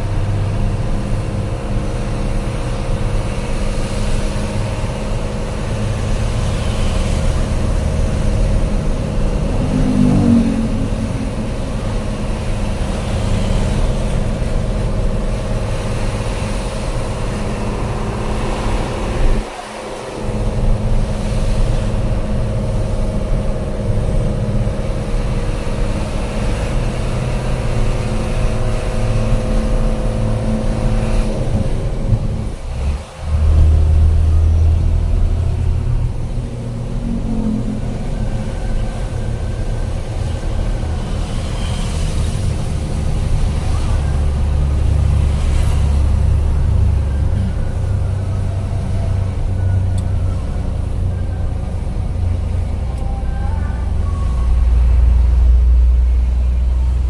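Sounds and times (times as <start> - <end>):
deep drone: 0.0 - 57.0
truck engine running: 0.0 - 57.0.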